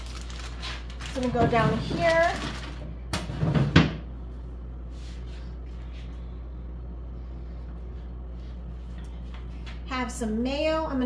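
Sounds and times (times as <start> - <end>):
refrigerator low hum: 0.0 - 11.0.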